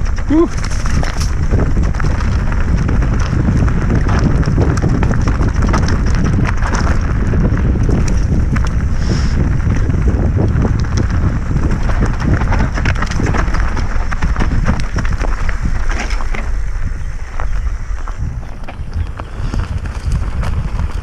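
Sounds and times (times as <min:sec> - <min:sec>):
bike rattles and clicks: 0:00.0 - 0:21.0
wind on microphone: 0:00.0 - 0:21.0.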